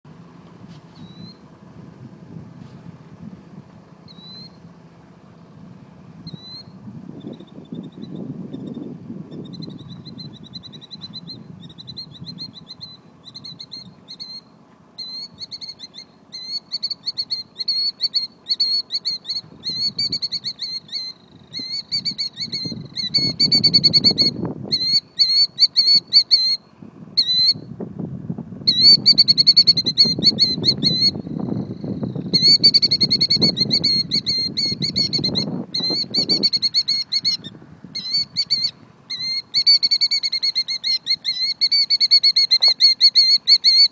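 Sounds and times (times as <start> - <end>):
killdeer calling: 0.9 - 1.6, 3.9 - 5.2, 6.1 - 27.7, 28.7 - 43.9.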